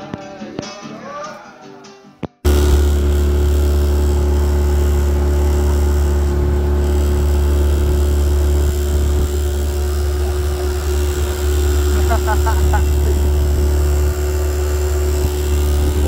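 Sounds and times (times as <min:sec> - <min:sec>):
outboard motor drone: 0:02.5 - 0:16.0.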